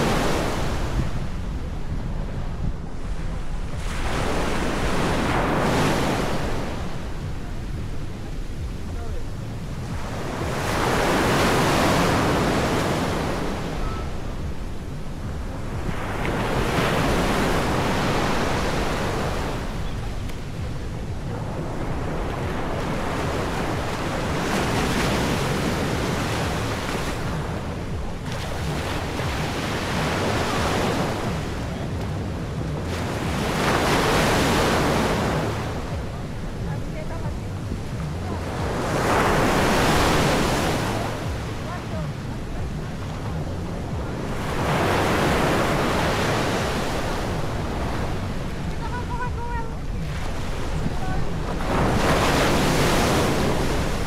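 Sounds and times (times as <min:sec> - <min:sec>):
surf breaking on a beach: 0:00.0 - 0:54.0
wind rumbling on microphone: 0:00.0 - 0:54.0.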